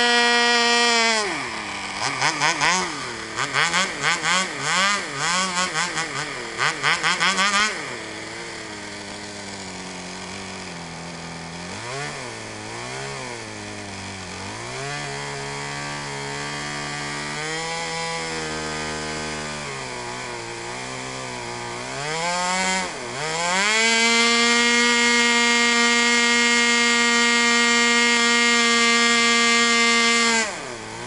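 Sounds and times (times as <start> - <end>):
model aircraft engine revving: 0.0 - 31.0.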